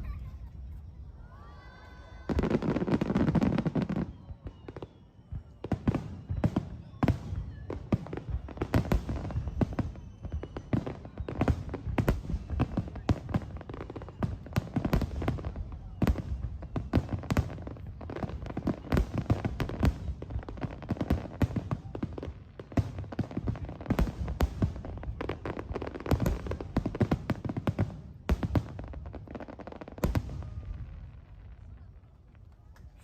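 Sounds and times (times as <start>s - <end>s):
crackling firework pops: 2.3s - 33.0s.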